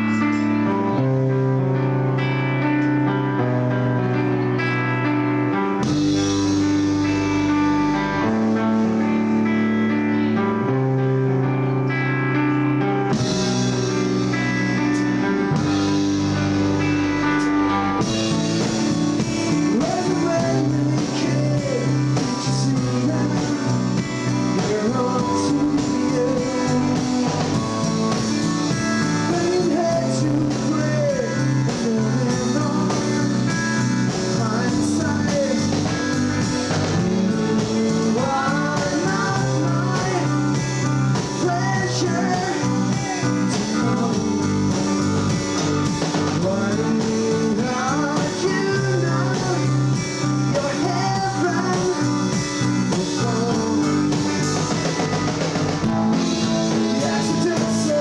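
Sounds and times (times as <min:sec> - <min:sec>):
blues-rock band playing: 0:00.0 - 0:58.0.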